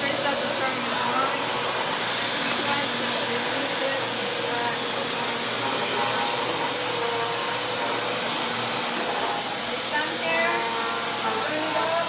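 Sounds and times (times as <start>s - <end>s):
upright vacuum cleaner running: 0.0s - 12.0s.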